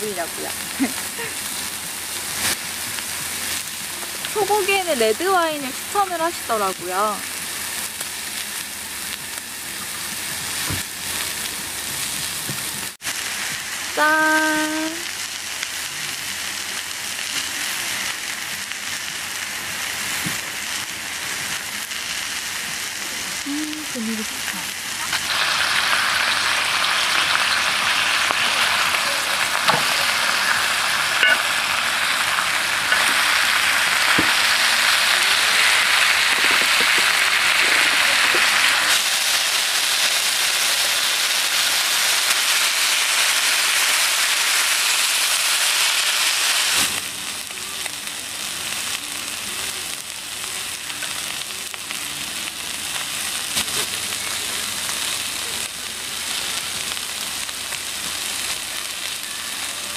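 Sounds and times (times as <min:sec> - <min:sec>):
steak sizzling on griddle: 0:00.0 - 0:59.9.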